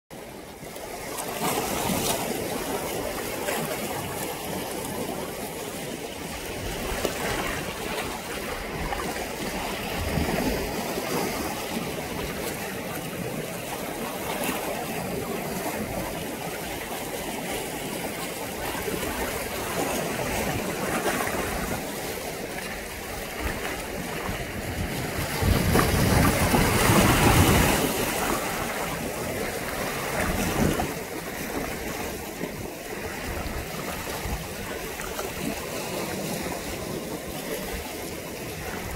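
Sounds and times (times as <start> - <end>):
sea water washing and lapping: 0.1 - 38.9
wind on microphone: 0.2 - 38.9.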